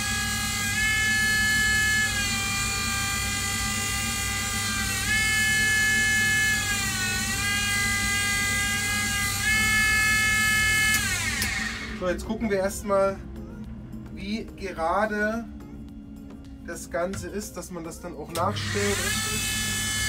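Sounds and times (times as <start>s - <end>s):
grinding wheel whining on skate blade: 0.0s - 16.5s, 18.4s - 20.0s.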